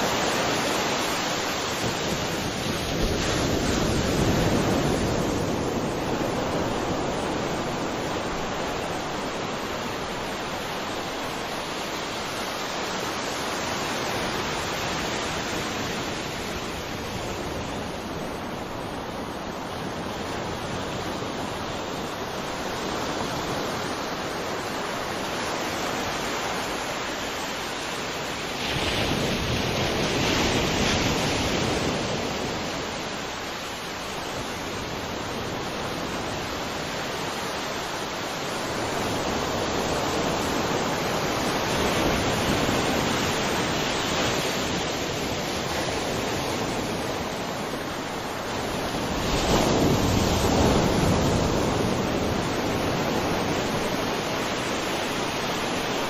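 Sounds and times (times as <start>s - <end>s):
sea waves breaking: 0.0s - 56.0s.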